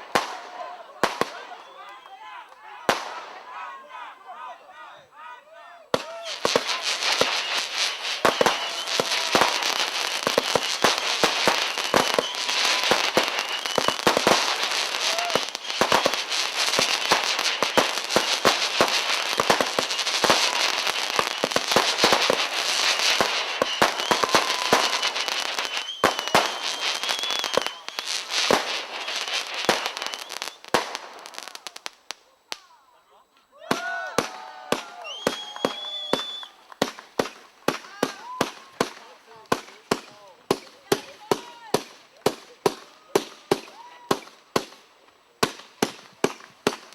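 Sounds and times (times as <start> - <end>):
fireworks pops and bangs: 0.0 - 3.4, 5.9 - 32.7, 33.7 - 46.9
fireworks crackling: 0.0 - 3.9, 5.9 - 32.9, 33.6 - 46.9.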